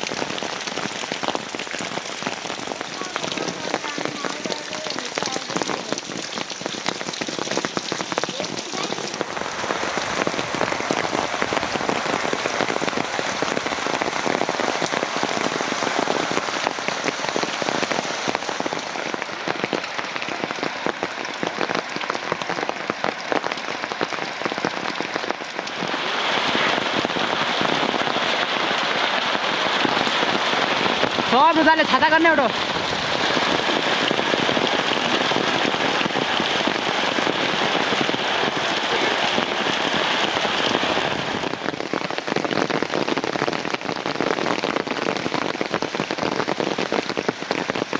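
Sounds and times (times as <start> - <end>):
heavy rain pattering: 0.0 - 47.9.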